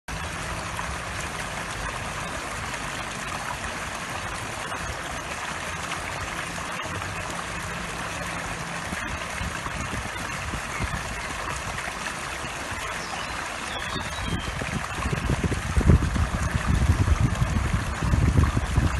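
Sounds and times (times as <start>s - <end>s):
fountain water splashing into pond: 0.1s - 18.9s.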